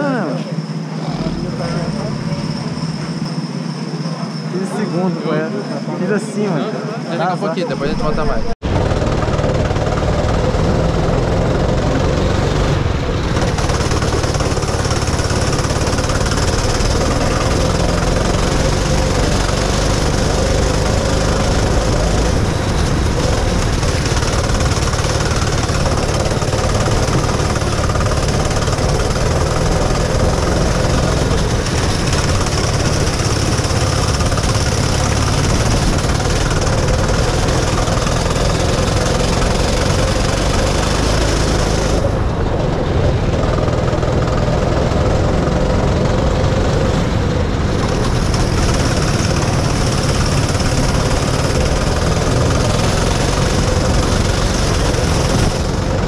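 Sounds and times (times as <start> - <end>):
go-kart engine rattling drone: 0.0 - 56.0.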